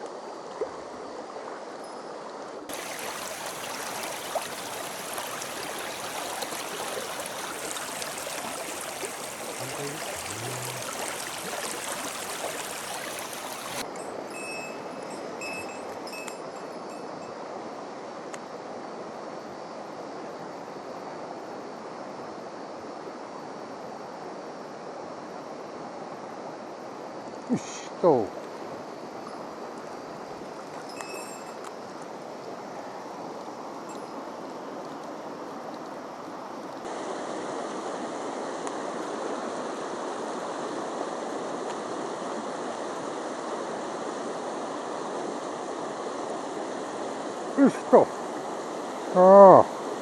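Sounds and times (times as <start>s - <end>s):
mountain stream rushing: 0.0s - 16.6s, 23.9s - 50.0s.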